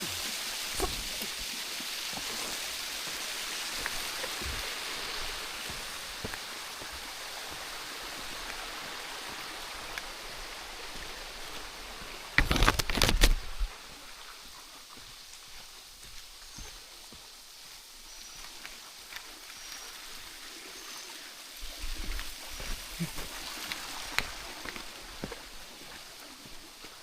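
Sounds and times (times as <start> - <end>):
waterfall rushing: 0.0 - 17.2, 19.3 - 27.0.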